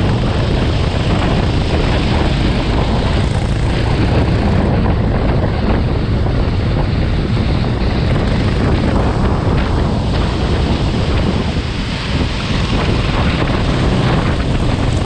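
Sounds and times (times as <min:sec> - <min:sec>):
kart engine: 0:00.0 - 0:15.0
wind buffeting microphone: 0:00.0 - 0:15.0.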